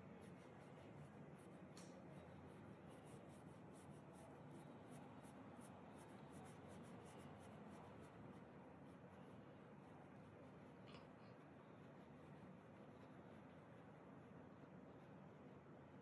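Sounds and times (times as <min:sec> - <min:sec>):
paintbrush scratching on canvas: 0:00.0 - 0:15.2
low steady hiss: 0:00.0 - 0:16.0.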